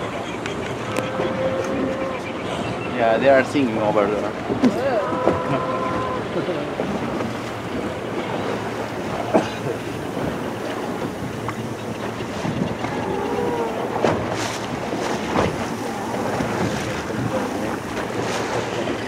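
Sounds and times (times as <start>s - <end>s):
seawater rushing along boat: 0.0s - 19.0s
wind buffeting microphone: 0.0s - 19.0s.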